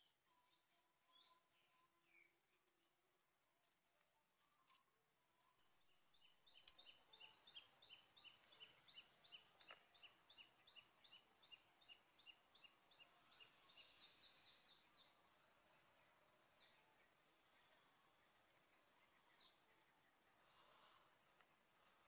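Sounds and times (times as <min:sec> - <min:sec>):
small bird chirping: 0:00.0 - 0:02.8, 0:04.4 - 0:22.0.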